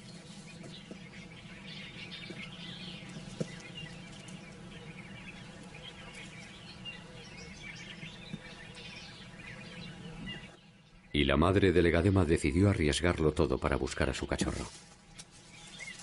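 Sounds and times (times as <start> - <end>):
birds chirping and calling: 0.0 - 16.0
low steady hum: 0.0 - 16.0.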